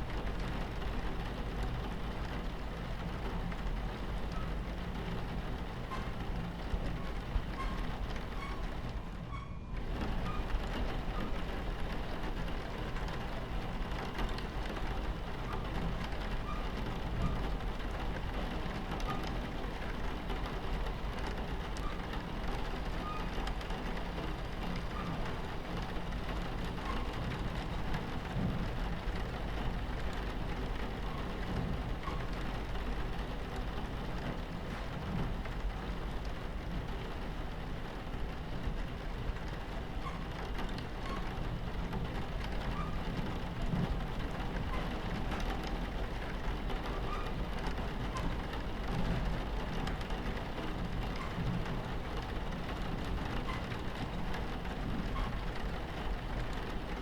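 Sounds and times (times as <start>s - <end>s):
rain pattering on window: 0.0s - 57.0s
train rumbling on tracks: 0.0s - 57.0s.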